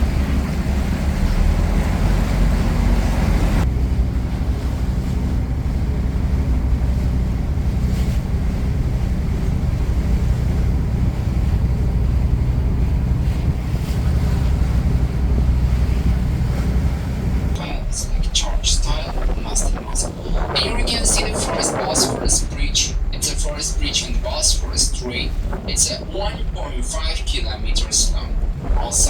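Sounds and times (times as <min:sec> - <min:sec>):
boat engine running: 0:00.0 - 0:29.0
water along hull: 0:00.0 - 0:29.0
wind on microphone: 0:00.0 - 0:29.0.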